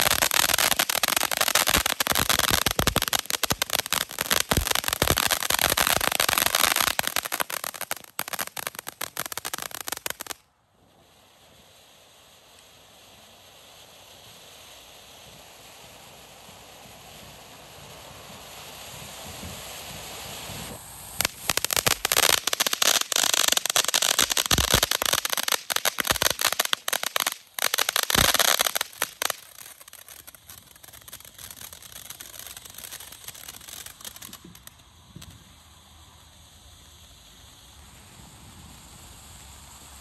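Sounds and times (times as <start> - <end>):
fireworks crackling pops: 0.0 - 40.0
fireworks hissing: 0.0 - 40.0.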